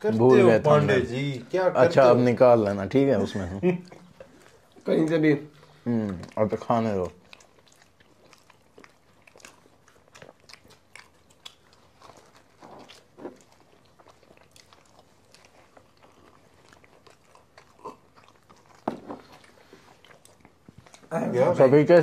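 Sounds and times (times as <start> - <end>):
chewing and biting pizza: 0.0 - 22.0.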